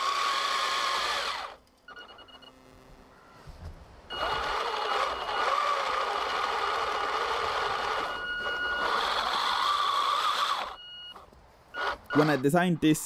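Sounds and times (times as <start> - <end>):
electric motors whining: 0.0 - 3.5, 4.1 - 11.2, 11.8 - 12.5.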